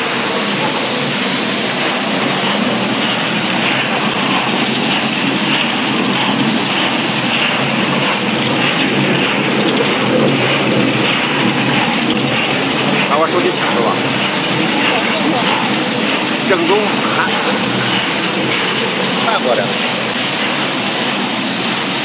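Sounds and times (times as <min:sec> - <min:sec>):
high whine: 0:00.0 - 0:22.0
mechanical din of machinery: 0:00.0 - 0:22.0.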